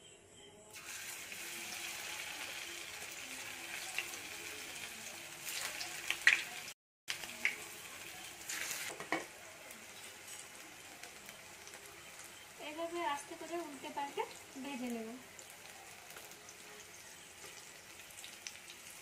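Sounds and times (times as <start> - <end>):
dough sizzling in hot oil: 0.7 - 19.0.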